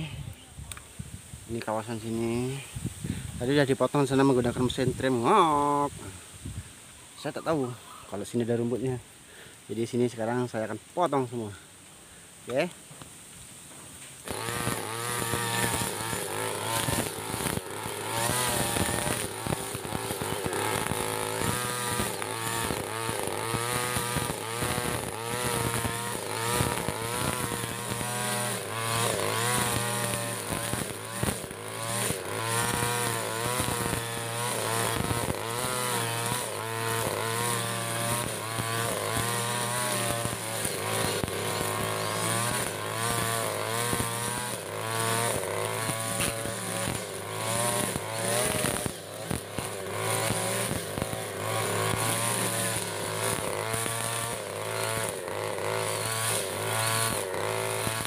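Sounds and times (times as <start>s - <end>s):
brush cutter engine cutting grass: 0.0s - 58.0s.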